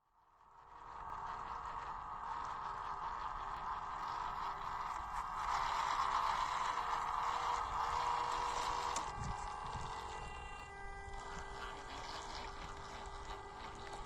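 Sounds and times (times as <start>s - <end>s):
electric motor and gearbox whirring: 0.5s - 14.0s.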